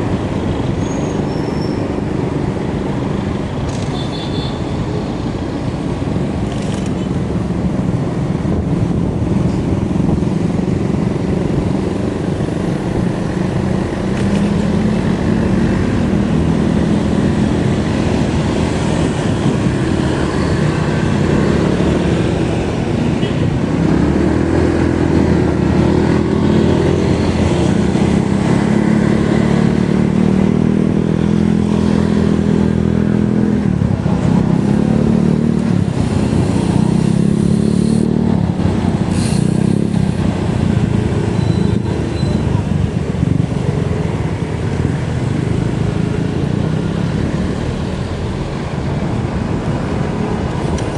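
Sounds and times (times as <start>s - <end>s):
road and wind noise: 0.0s - 50.9s.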